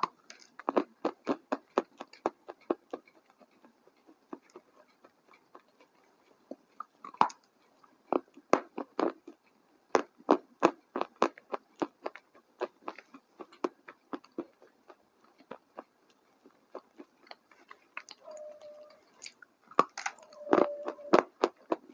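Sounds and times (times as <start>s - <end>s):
person chewing crunchy food: 0.0s - 21.9s.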